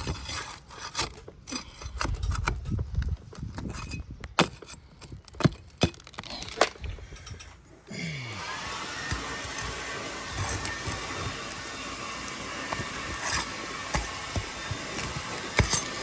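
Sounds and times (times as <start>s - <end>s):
knocks and scrapes on roof shingles: 0.0s - 7.0s, 9.1s - 16.0s.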